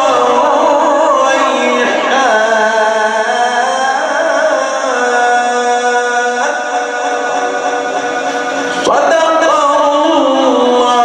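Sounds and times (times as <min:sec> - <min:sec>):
man reciting with held vowel: 0:00.0 - 0:11.0.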